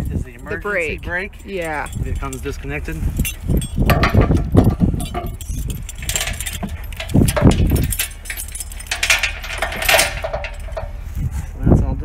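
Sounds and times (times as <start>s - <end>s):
chains clinking and rattling: 0.0s - 11.4s.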